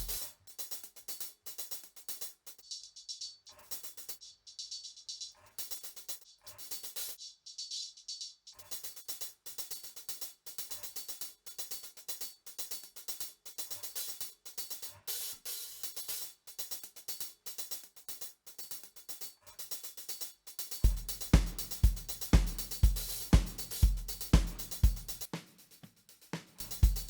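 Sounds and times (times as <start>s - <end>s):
hi-hat and cymbals ticking: 0.0s - 27.0s.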